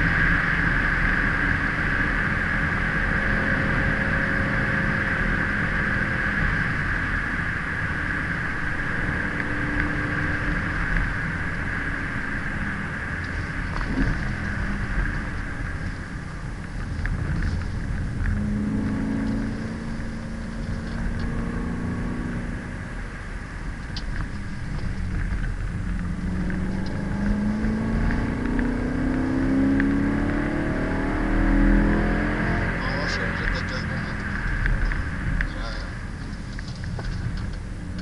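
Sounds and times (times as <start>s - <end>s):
car engine revving: 0.0s - 38.0s
tyre and road noise: 0.0s - 38.0s.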